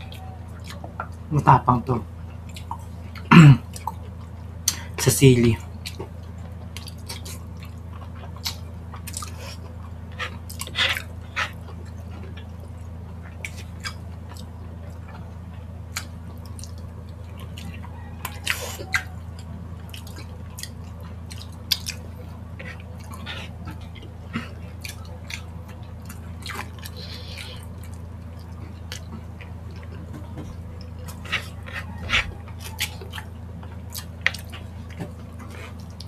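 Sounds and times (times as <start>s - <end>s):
wet eating sounds: 5.6s - 36.0s.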